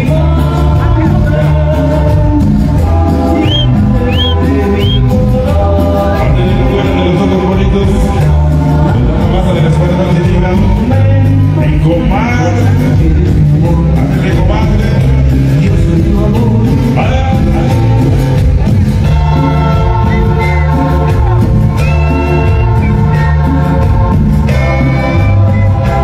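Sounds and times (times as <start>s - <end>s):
dance music with singing: 0.0s - 26.0s.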